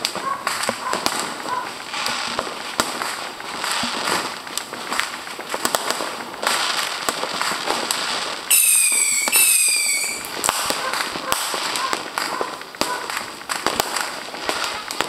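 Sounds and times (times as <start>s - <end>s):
fireworks crackling and banging: 0.0s - 15.0s
whistling fireworks: 0.0s - 15.0s.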